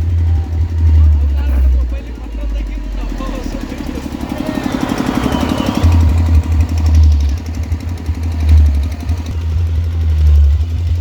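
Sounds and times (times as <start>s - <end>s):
deep sub-bass: 0.0s - 11.0s.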